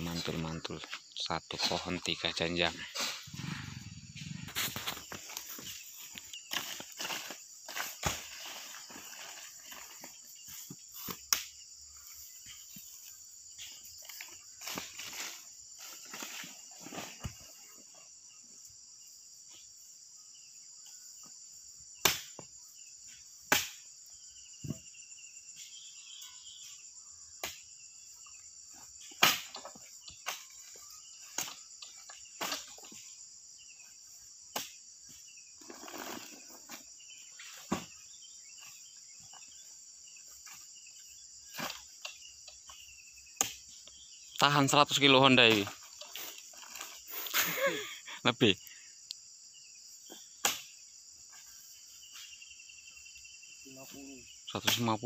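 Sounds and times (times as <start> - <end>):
high insect chorus: 0.0 - 55.0.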